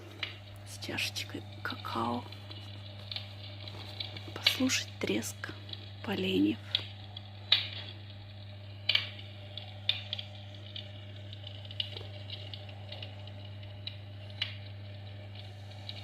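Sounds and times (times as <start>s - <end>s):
logs crackling in fireplace: 0.0s - 16.0s
steady low hum: 0.0s - 16.0s.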